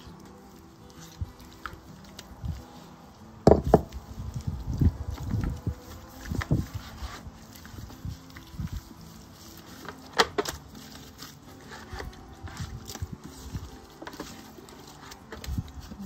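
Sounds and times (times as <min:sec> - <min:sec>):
wet hands rubbing meat: 0:00.0 - 0:16.0.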